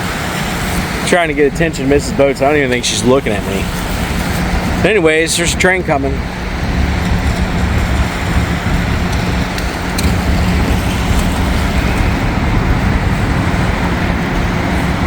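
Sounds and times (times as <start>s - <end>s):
vehicle noise with low hum: 0.0s - 15.0s.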